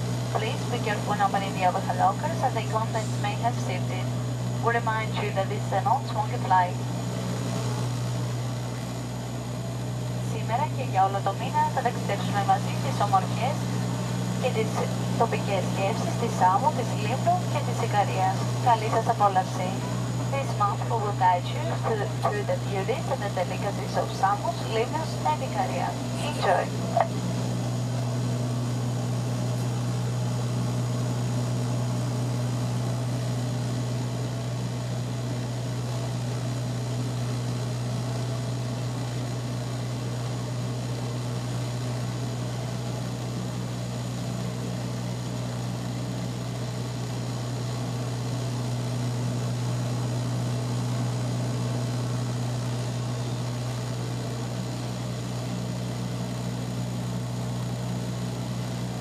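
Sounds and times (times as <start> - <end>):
propeller plane cabin hum: 0.0 - 59.0.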